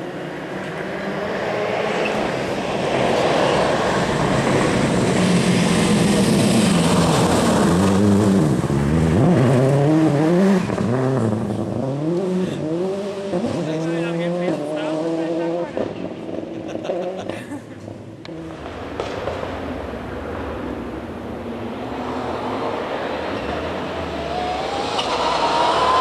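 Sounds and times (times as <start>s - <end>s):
rally car engine revving: 0.0s - 17.3s, 18.2s - 26.0s.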